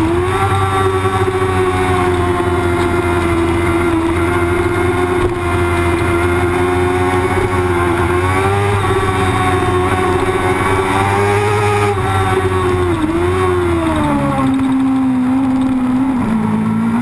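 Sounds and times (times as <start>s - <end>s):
racing motorcycle engine high revs: 0.0s - 17.0s
wind and road noise: 0.0s - 17.0s.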